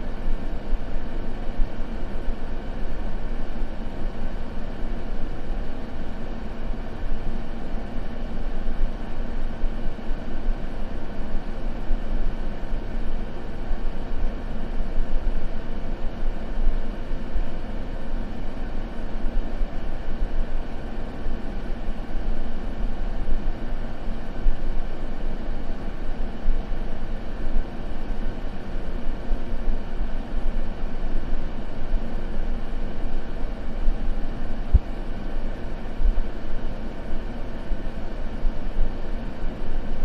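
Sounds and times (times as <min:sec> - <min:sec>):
white noise: 0:00.0 - 0:40.0.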